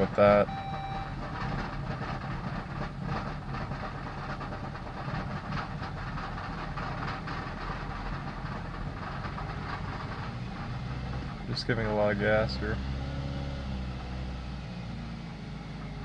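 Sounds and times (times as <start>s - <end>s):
car engine running rough: 0.0s - 16.0s.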